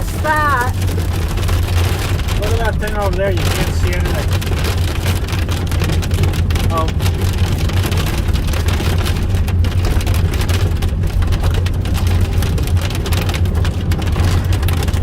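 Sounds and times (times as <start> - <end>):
car driving rumble: 0.0 - 15.0
hail and rain on a car: 0.0 - 15.0.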